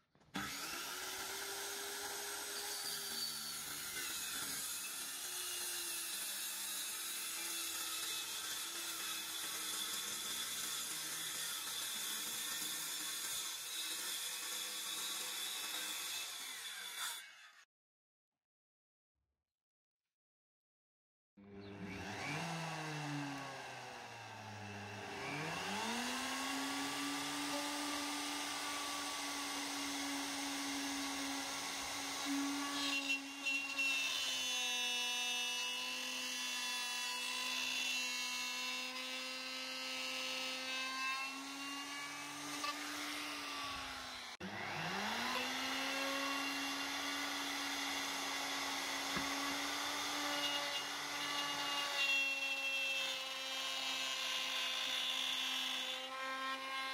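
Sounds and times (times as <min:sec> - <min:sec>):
router bit cutting wood: 0:00.3 - 0:17.6, 0:21.4 - 0:56.9
router whining: 0:00.3 - 0:17.6, 0:21.4 - 0:56.9.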